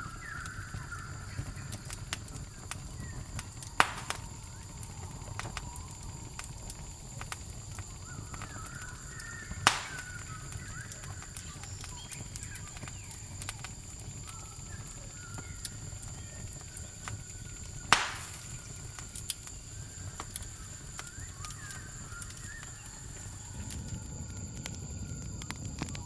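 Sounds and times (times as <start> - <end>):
campfire crackling and popping: 0.0 - 26.0
crickets chirring: 0.0 - 26.0.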